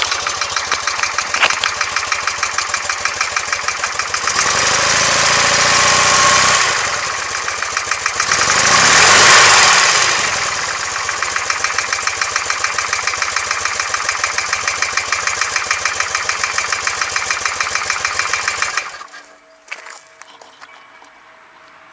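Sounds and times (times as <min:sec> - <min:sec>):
motorcycle engine revving: 0:00.0 - 0:19.3.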